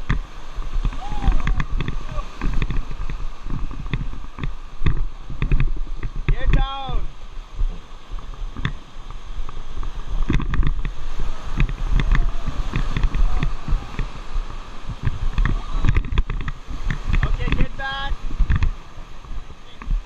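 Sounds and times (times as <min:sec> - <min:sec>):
rushing splashing water: 0:00.0 - 0:20.0
water thumping against raft: 0:00.0 - 0:20.0
wind buffeting microphone: 0:00.0 - 0:20.0.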